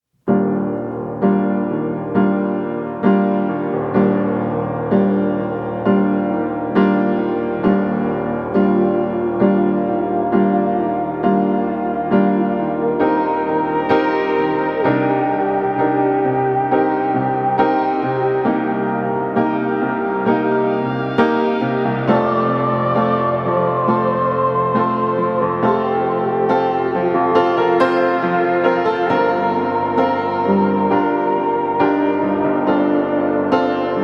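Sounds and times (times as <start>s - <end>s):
slow piano chords: 0.2s - 34.0s.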